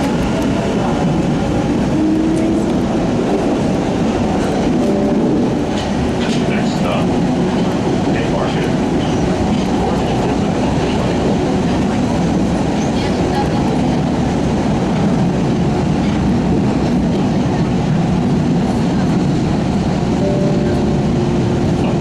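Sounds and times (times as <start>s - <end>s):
rail clatter: 0.0s - 22.0s
subway car rumbling in tunnel: 0.0s - 22.0s.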